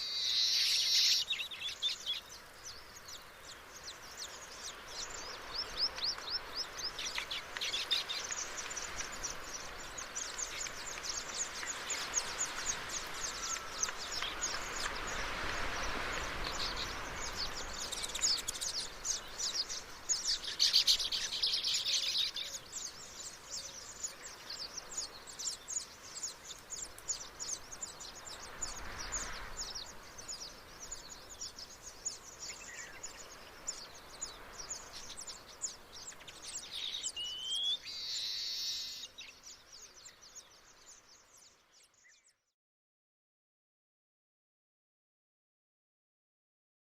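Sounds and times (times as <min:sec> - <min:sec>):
steady background hiss: 0:00.0 - 0:41.9
small birds chirping: 0:00.0 - 0:42.5.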